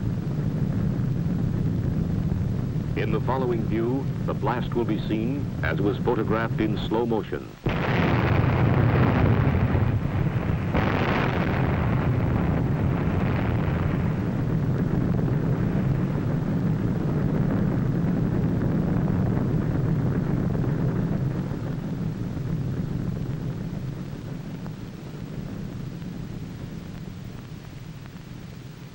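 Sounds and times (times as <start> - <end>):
explosion rumble: 0.0 - 28.9.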